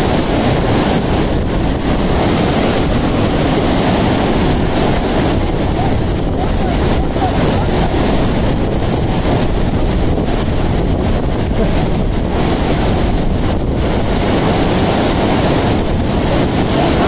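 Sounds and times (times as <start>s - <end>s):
torrent rushing over boulders: 0.0s - 17.0s.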